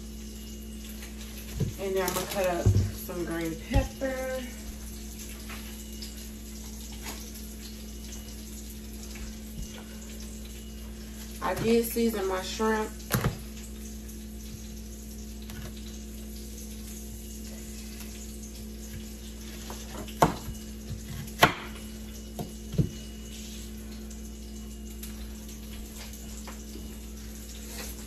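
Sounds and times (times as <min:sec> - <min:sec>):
fish frying in oil: 0:00.0 - 0:28.0
low steady hum: 0:00.0 - 0:28.0.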